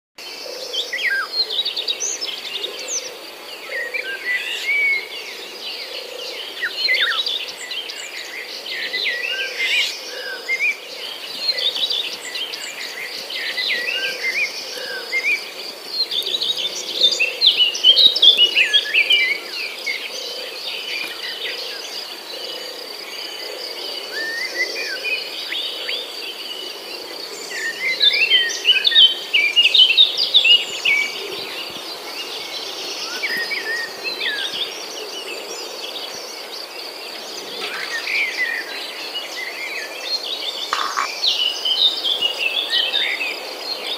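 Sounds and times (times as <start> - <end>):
birds chirping: 0.6 - 43.9
high insect trill: 7.0 - 43.9.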